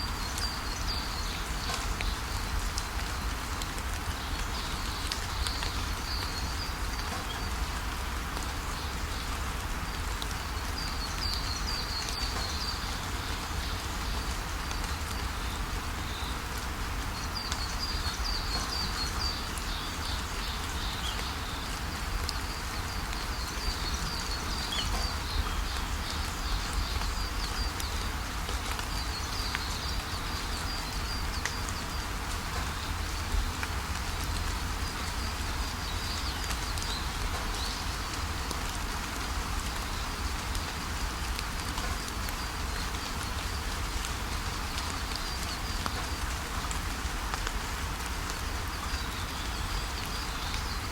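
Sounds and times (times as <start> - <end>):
songbirds chirping: 0.0 - 50.9
steady rain falling: 0.0 - 50.9.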